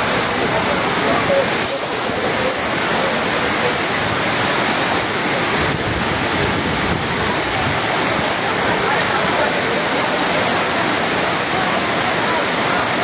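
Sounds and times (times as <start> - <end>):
pouring rain: 0.0 - 13.0
running water: 0.0 - 13.0.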